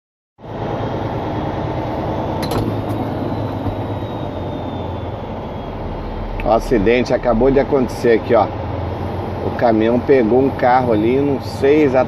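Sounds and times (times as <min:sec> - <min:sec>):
engine and road rumble: 0:00.4 - 0:12.0.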